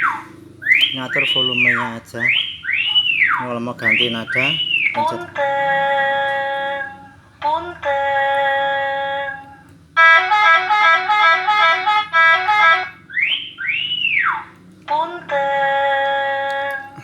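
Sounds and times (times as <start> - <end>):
electronic vehicle horn tones: 0.6 - 7.3, 10.0 - 17.0.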